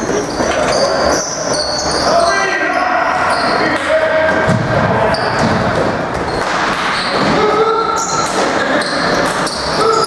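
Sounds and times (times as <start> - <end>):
sneaker squeaks: 0.0 - 10.0.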